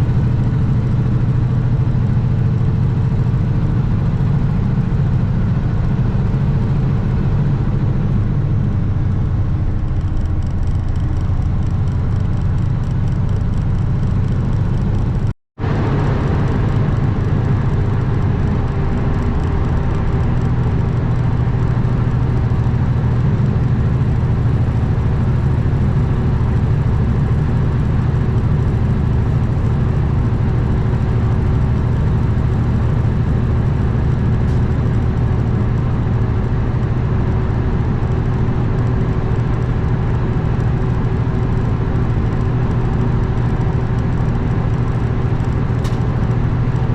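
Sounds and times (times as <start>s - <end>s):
diesel truck engine cruising: 0.0s - 46.9s
road and wind noise: 0.0s - 46.9s.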